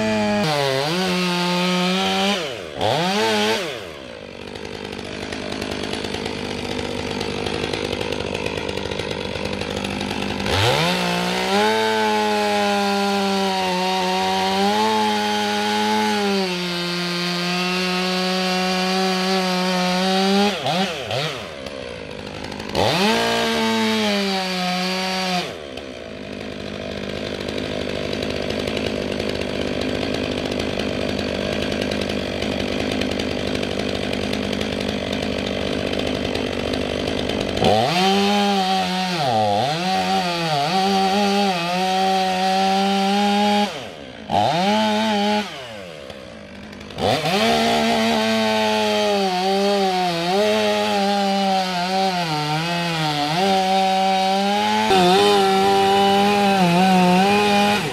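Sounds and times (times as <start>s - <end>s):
chainsaw running and revving: 0.0s - 57.9s.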